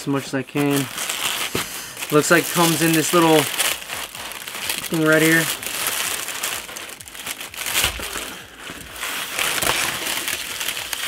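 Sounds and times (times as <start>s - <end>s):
paper wrap crinkling: 0.0s - 11.0s.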